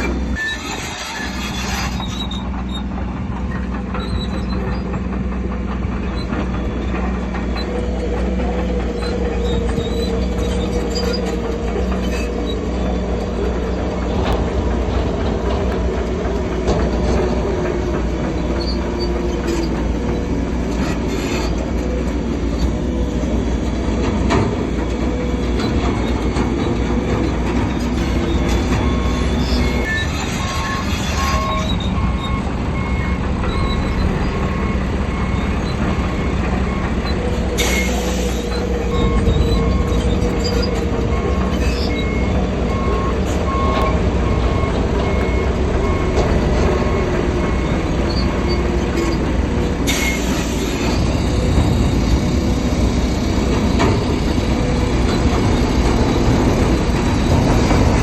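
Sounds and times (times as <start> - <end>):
bulldozer diesel engine running: 0.0 - 58.0
metallic squeal of tracks: 0.0 - 58.0
steel tracks clanking: 0.0 - 58.0.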